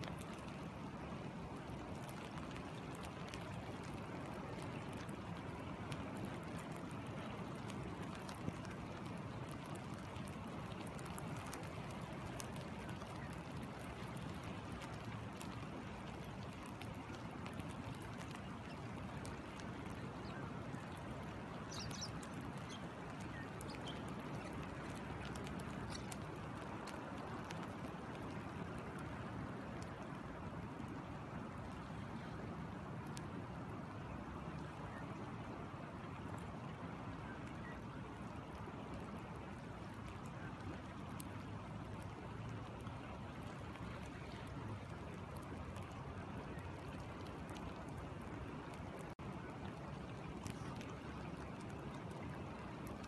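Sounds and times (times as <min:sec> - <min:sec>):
rain falling: 0:00.0 - 0:53.0
stream flowing over rocks: 0:00.0 - 0:53.0.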